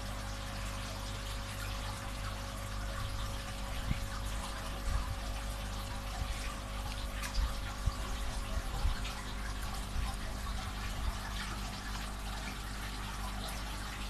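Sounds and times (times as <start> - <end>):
water splashing and trickling: 0.0 - 14.0
water dripping: 0.9 - 14.0.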